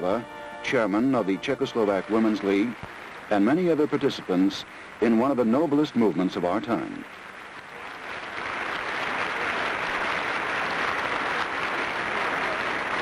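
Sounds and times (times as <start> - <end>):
audience applauding: 0.8 - 13.0.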